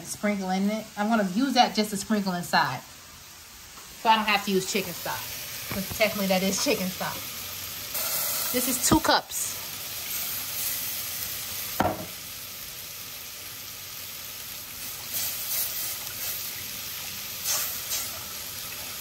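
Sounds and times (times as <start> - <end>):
water sizzling in hot roux: 0.0 - 19.0.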